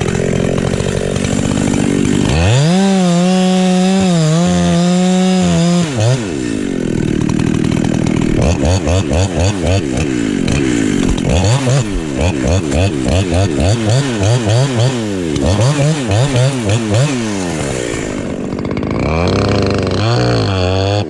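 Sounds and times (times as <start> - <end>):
two-stroke chainsaw revving: 0.0 - 21.0.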